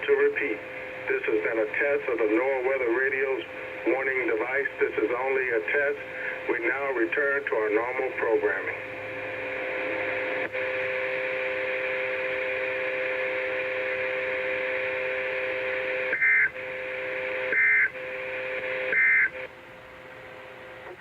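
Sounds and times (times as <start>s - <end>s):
radio hiss: 0.0s - 19.5s
low buzzing hum: 0.0s - 21.0s.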